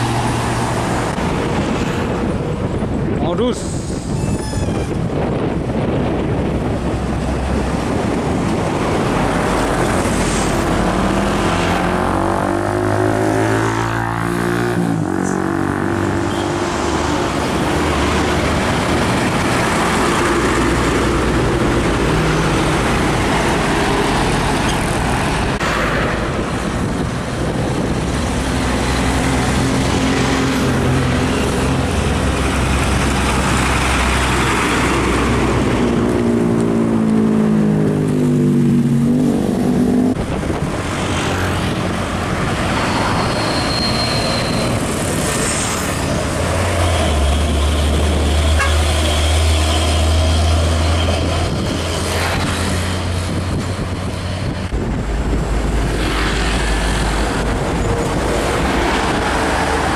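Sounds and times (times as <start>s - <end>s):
diesel trucks accelerating: 0.0s - 59.9s.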